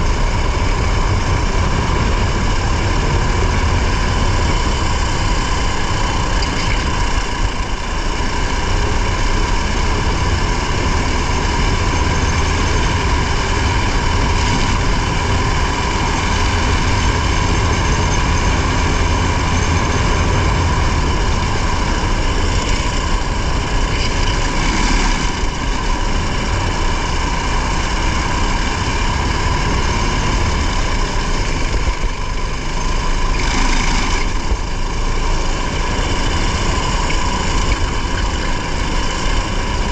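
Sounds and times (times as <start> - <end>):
low road rumble: 0.0 - 39.9
racing car engine running hard: 0.0 - 39.9.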